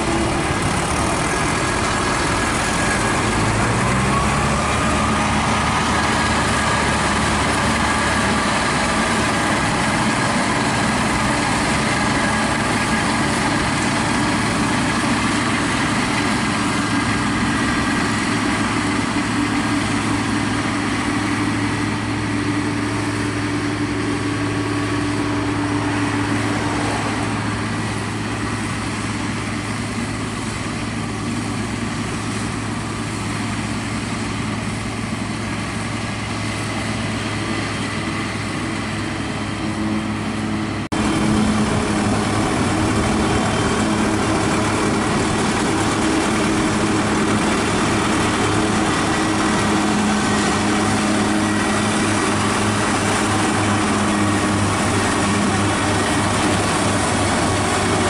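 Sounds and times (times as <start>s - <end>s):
diesel engines running: 0.0s - 58.0s
harvester chopping and blowing crop: 0.0s - 58.0s.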